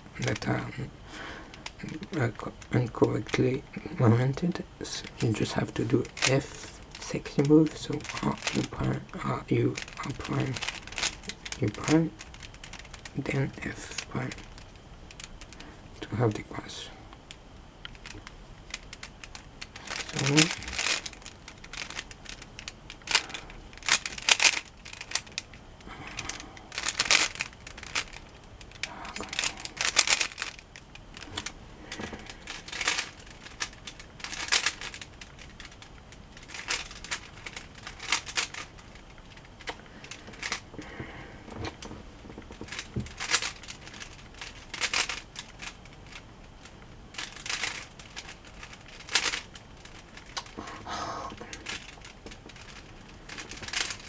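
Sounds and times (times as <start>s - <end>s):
plastic puzzle cube clicking: 5.1s - 15.6s, 17.8s - 25.6s, 26.2s - 40.7s, 41.6s - 54.0s.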